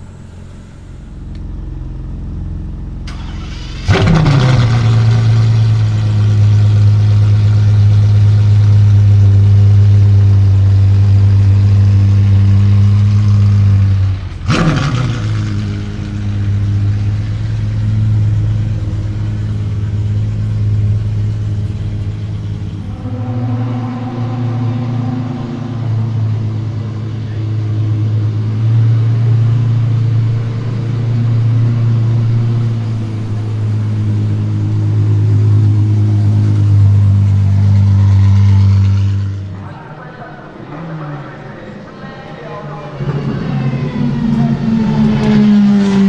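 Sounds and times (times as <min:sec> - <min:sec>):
car engine idling: 0:00.0 - 0:46.0
car engine starting and revving: 0:00.0 - 0:46.0.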